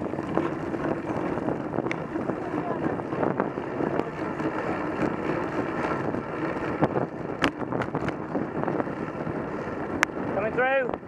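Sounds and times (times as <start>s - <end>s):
bike rolling on tarmac: 0.0s - 11.0s
wind buffeting microphone: 0.0s - 11.0s.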